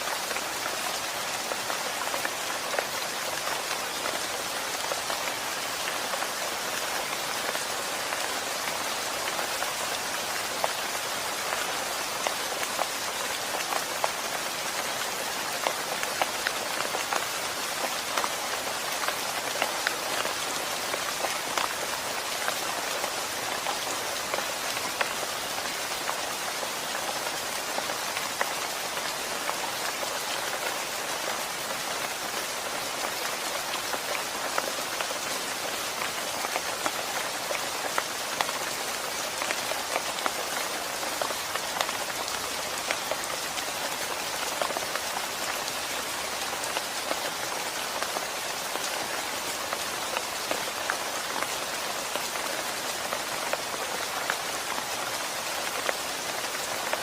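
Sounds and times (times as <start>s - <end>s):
rain falling: 0.0s - 57.0s
raindrops ticking on surface: 0.0s - 57.0s.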